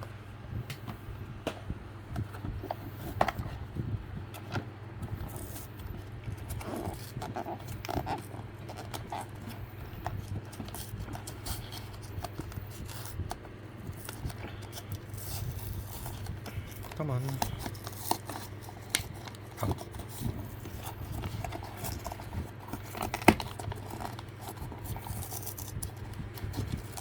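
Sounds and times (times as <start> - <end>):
steady low hum: 0.0 - 27.0
cardboard packaging crinkling: 4.3 - 27.0.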